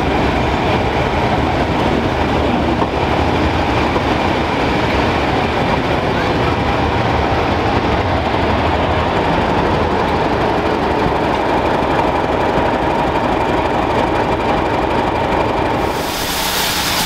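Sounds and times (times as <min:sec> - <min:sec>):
diesel locomotive passing: 0:00.0 - 0:17.0.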